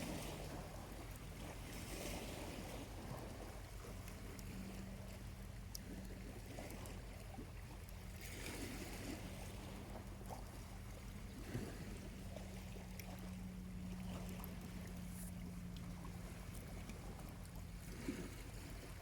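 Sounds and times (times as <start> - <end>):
small waves lapping on beach: 0.0 - 19.0
steady low hum: 0.0 - 19.0.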